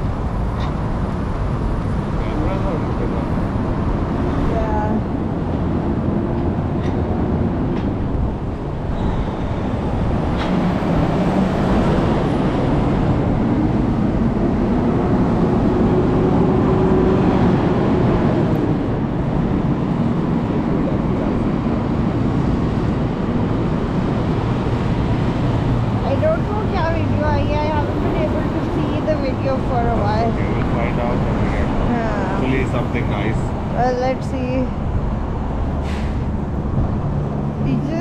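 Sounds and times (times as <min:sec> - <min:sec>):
motor vehicle engine rumbling: 0:00.0 - 0:38.0.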